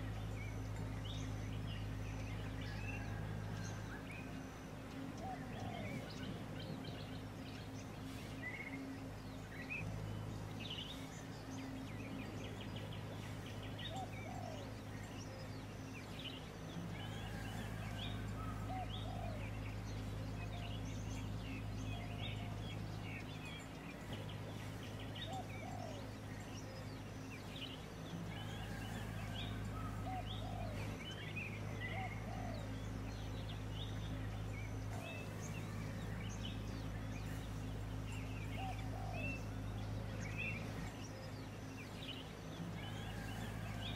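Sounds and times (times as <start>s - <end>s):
small birds chirping: 0.0s - 43.9s
steady low hum: 0.0s - 43.9s.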